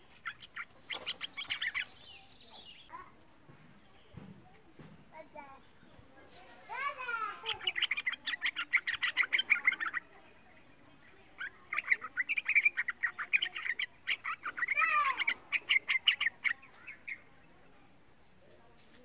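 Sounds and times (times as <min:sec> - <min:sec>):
bird chirping: 0:00.0 - 0:04.8, 0:05.4 - 0:18.6.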